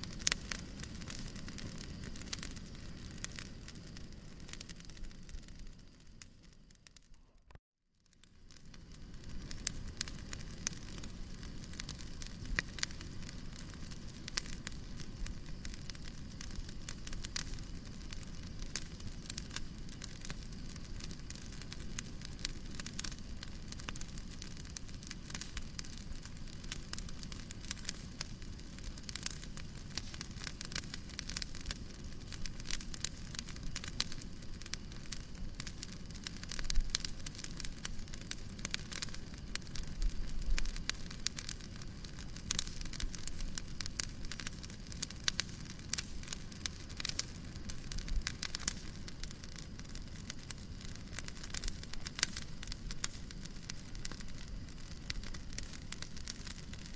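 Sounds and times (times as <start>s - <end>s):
fireplace fire crackling: 0.0s - 56.9s
low rumble of burning: 0.0s - 56.9s.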